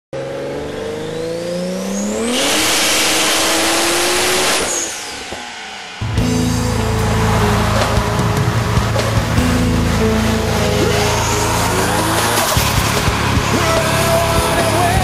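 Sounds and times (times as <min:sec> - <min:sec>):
car rushing past: 0:00.2 - 0:15.0
race car engine revving: 0:00.2 - 0:15.0.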